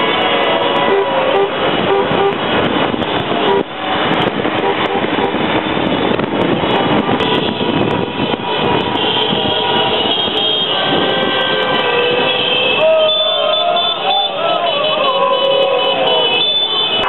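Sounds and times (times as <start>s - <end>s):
car and scooter horns honking: 0.0s - 17.0s
scooter engines: 0.0s - 17.0s.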